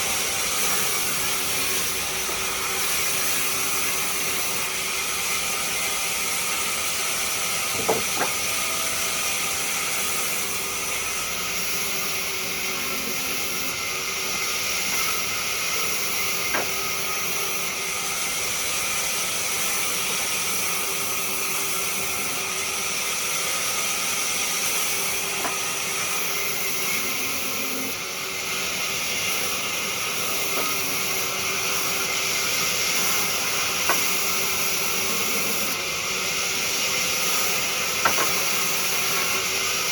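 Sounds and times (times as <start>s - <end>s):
lathe motor hum: 0.0s - 39.9s
turning tool cutting wood: 0.0s - 39.9s.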